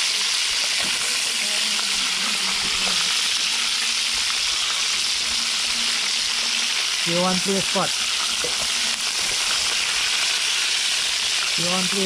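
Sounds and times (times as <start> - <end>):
lobster sizzling in hot oil: 0.0 - 12.0.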